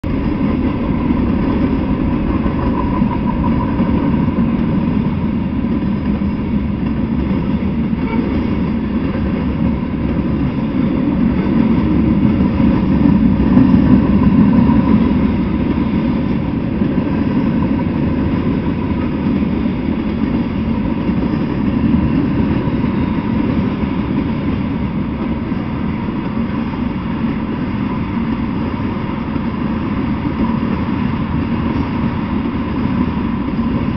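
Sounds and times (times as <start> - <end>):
freight train wheels rumbling: 0.0 - 33.9.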